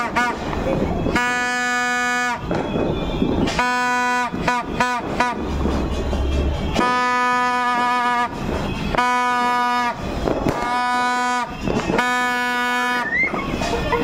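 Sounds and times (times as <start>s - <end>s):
buzzy horn blasts: 0.0s - 14.0s.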